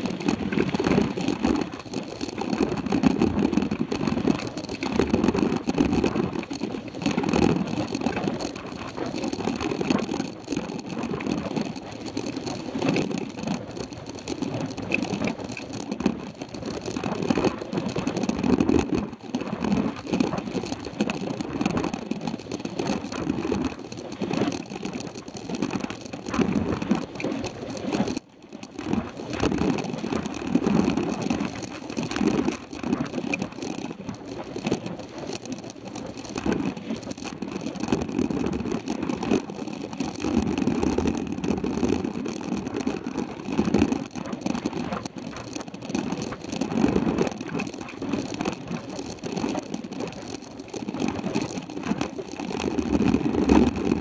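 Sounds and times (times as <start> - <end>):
bike tyres rumbling and rattling: 0.0 - 54.0.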